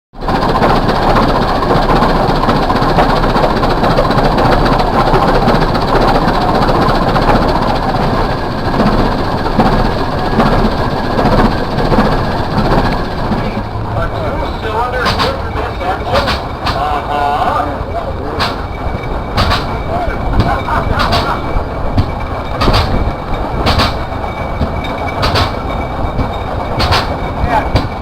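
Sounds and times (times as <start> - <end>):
tractor engine running: 0.2 - 28.0.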